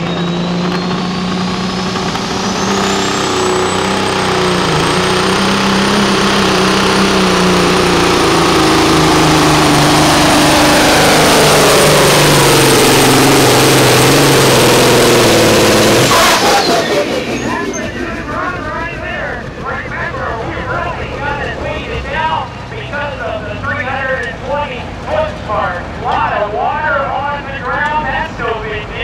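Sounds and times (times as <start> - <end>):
vehicle engine under load: 0.0 - 29.0.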